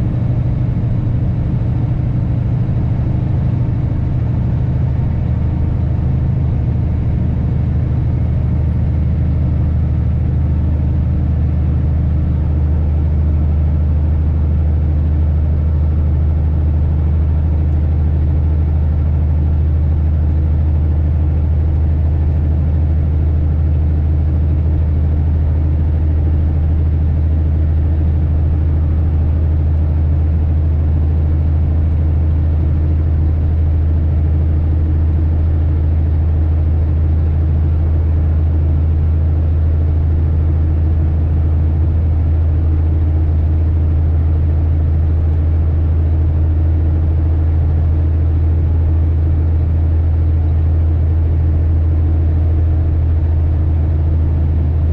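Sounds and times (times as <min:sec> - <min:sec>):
truck diesel engine drone: 0:00.0 - 0:54.9.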